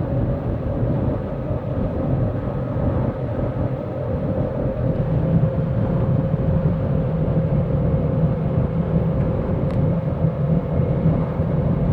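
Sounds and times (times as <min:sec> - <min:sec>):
differential howling whine: 0:00.0 - 0:11.9
low road rumble: 0:00.0 - 0:11.9.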